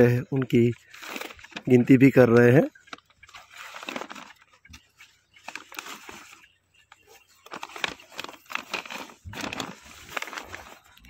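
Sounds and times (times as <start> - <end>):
paper bag rustling and crinkling: 0.0 - 6.4, 7.1 - 11.0.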